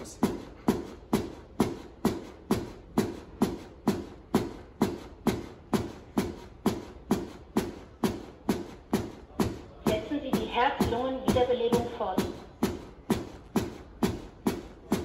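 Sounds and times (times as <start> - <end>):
chest compression thumps: 0.0 - 15.0.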